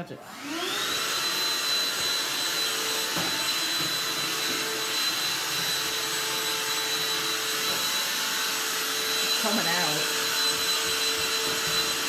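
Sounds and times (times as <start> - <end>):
electric appliance humming: 0.2 - 12.0.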